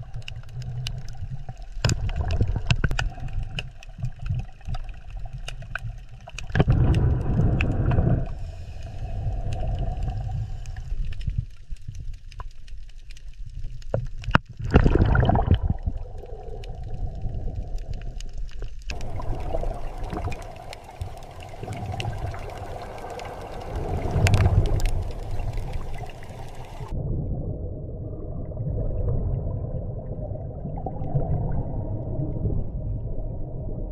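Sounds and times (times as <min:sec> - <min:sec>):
muffled underwater rumble: 0:00.0 - 0:33.9
water bubbling and gurgling: 0:00.0 - 0:33.9.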